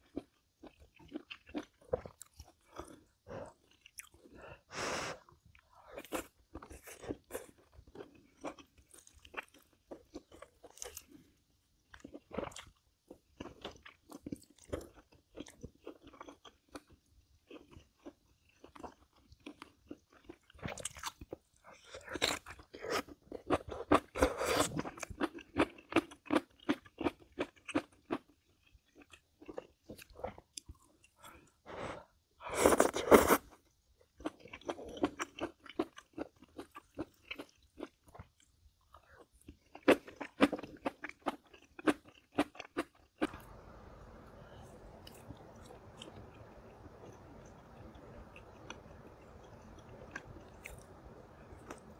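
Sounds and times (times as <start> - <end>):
person chewing and crunching food: 0.0 - 51.9.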